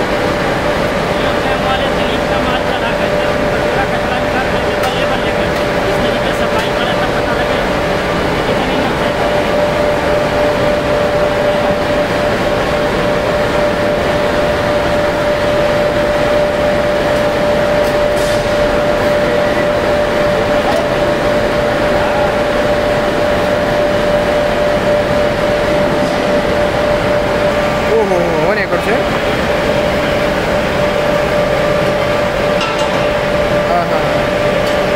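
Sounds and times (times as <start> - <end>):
furnace burner rushing: 0.0 - 34.9
mid-pitched hum: 0.0 - 34.9.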